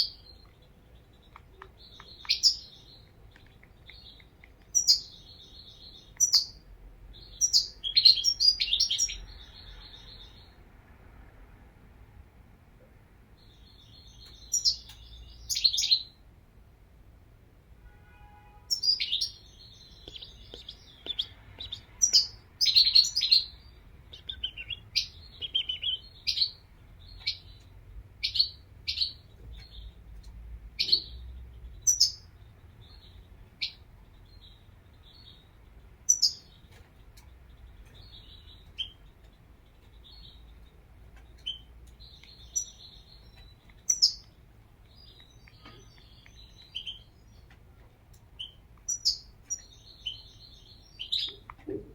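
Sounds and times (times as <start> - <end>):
goldfinch chirps and trills: 0.0 - 10.5, 13.4 - 16.2, 18.7 - 47.6, 48.2 - 51.5.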